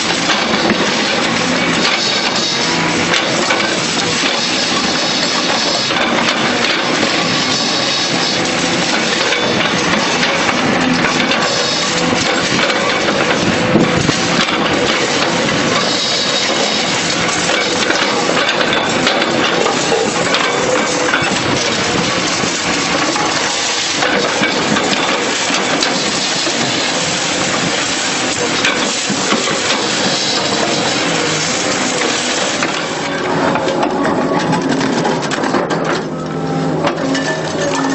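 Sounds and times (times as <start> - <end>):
machine hum: 0.0 - 37.9.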